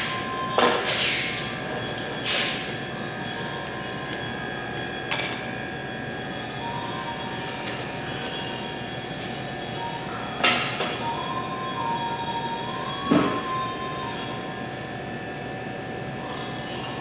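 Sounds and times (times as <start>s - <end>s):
kitchen machinery hum: 0.0s - 17.0s.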